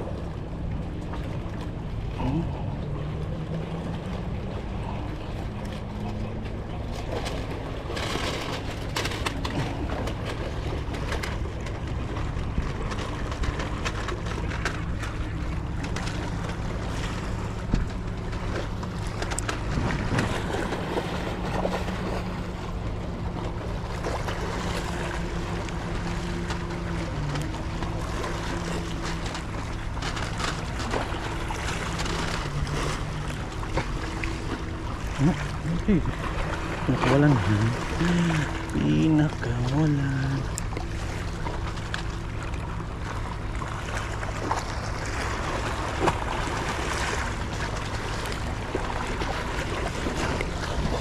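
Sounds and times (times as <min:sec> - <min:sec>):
motor humming: 0:00.0 - 0:51.0
rush of wind or water: 0:00.0 - 0:51.0.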